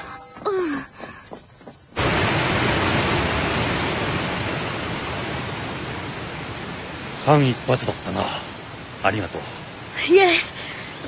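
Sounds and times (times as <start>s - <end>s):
rushing floodwater: 2.0s - 11.0s.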